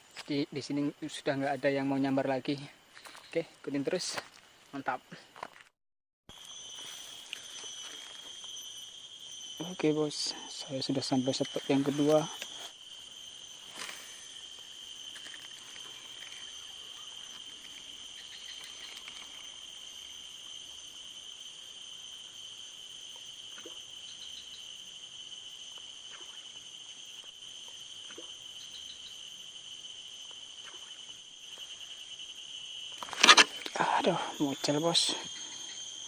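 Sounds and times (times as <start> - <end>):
insect chorus trilling: 0.0 - 5.6, 6.3 - 36.0.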